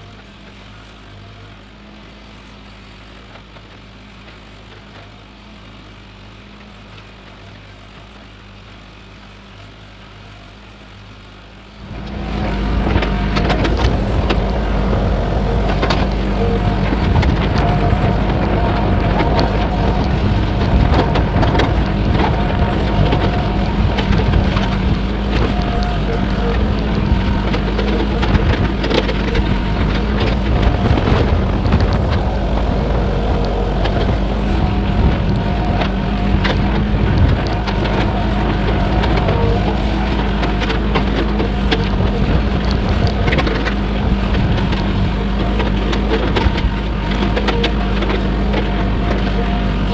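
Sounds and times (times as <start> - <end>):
excavator diesel engine revving: 0.0 - 49.9.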